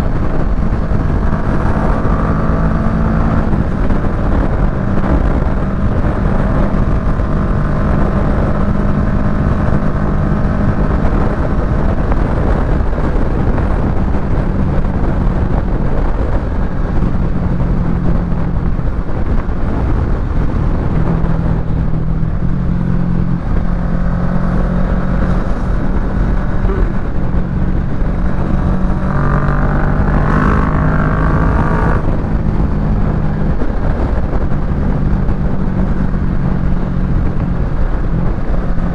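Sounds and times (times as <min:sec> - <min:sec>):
motorcycle engine revving: 0:00.0 - 0:38.9
road and wind noise: 0:00.0 - 0:38.9.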